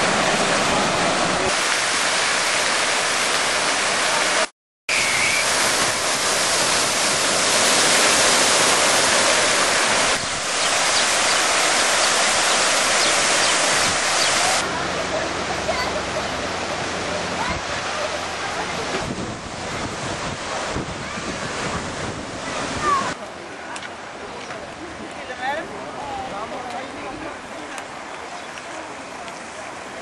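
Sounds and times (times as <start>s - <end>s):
fountain cascading into pool: 0.0s - 24.4s.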